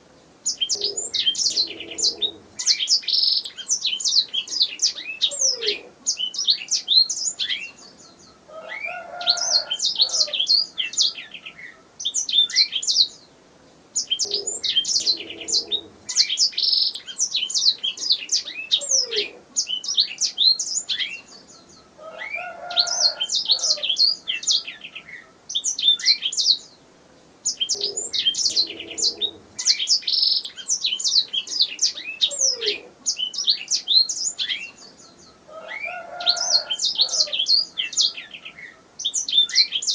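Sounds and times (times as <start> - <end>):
canary singing trills: 0.0 - 13.3, 13.9 - 26.8, 27.4 - 39.9
fainter lower bird call: 0.0 - 13.4, 14.0 - 26.8, 27.5 - 39.9.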